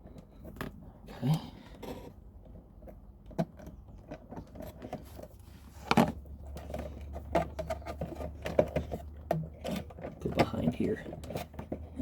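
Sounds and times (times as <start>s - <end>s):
hands working wire and tools: 0.0s - 12.0s
low steady hum: 0.0s - 12.0s.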